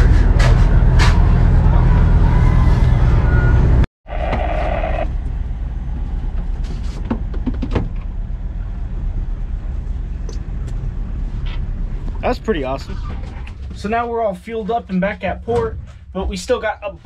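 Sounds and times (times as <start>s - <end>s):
boat engine rumbling: 0.0s - 16.6s.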